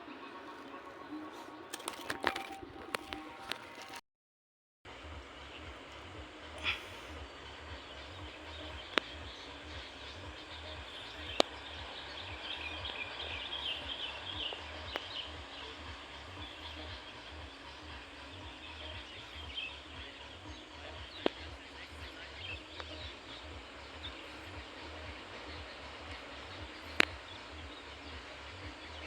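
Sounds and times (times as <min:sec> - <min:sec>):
birds chirping: 0:00.0 - 0:03.8, 0:04.9 - 0:29.0
steady low rumble: 0:04.9 - 0:29.0.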